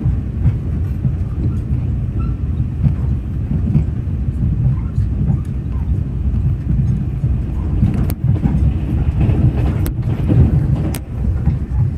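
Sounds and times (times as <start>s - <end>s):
train rumbling: 0.0s - 11.9s.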